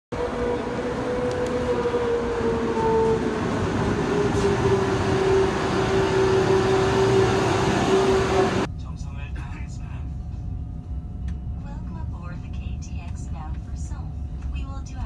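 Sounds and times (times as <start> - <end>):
high-speed train rumble and whine: 0.1 - 15.0.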